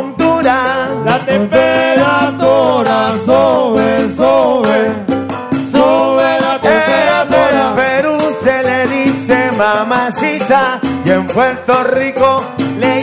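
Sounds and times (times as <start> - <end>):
live salsa band playing: 0.0 - 13.0.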